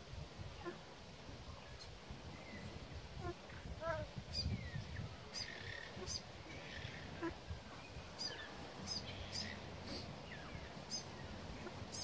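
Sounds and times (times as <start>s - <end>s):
soft outdoor background: 0.0s - 12.0s.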